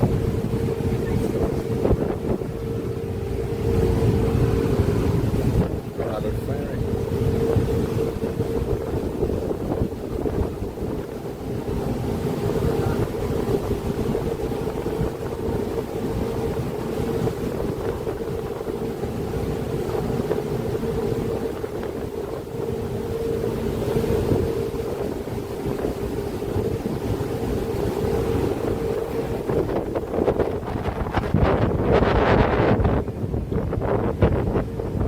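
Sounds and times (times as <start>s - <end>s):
ferry engines droning: 0.0s - 30.8s
rushing water: 0.0s - 35.0s
wind buffeting microphone: 0.0s - 35.0s.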